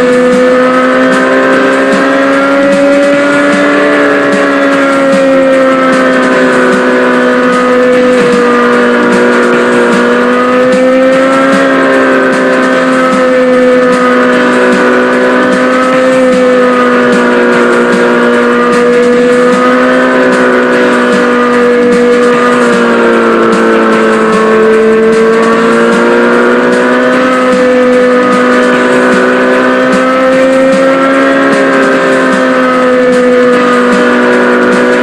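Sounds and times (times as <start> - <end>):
small motorbike engine running: 0.0 - 35.0.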